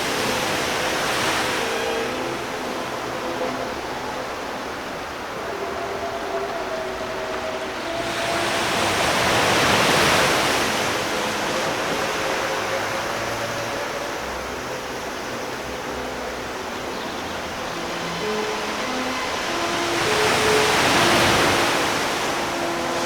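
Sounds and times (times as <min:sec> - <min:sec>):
faint held music notes: 0:00.0 - 0:23.0
surf wave breaking on shore: 0:00.0 - 0:23.0.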